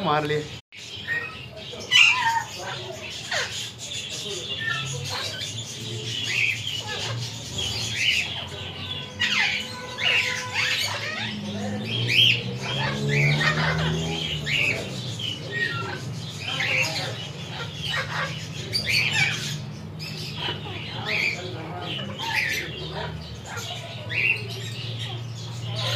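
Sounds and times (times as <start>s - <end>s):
parakeets squawking: 0.0s - 25.9s
low background murmur: 0.8s - 25.9s.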